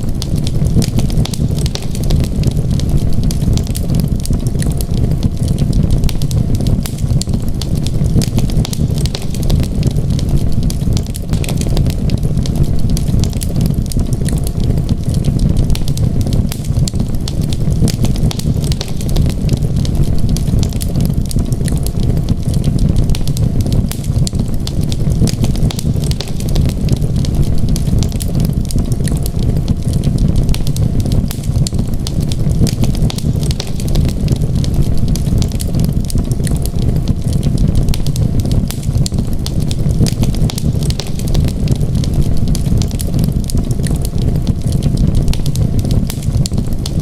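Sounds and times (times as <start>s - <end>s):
low rumble of flames: 0.0s - 47.0s
wood fire crackling: 0.0s - 47.0s.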